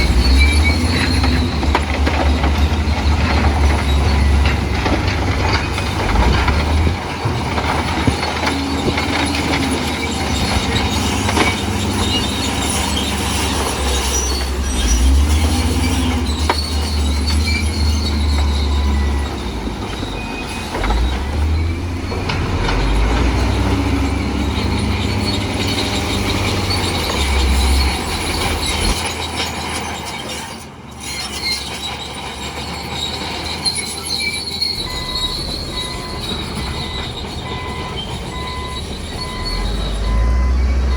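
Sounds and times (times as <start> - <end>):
bulldozer diesel engine rumbling: 0.0 - 40.9
steel tracks squealing and clanking: 0.0 - 40.9.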